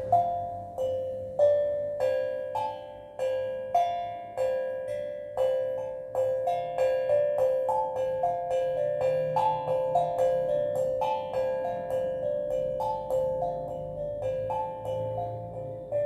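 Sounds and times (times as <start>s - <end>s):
steel drum melody: 0.0s - 16.0s.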